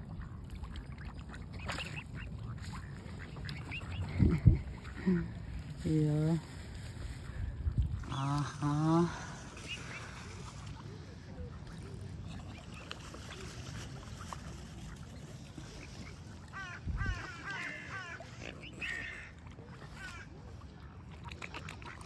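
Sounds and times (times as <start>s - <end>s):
ducks chirping calls: 0.0s - 5.7s, 6.8s - 22.0s.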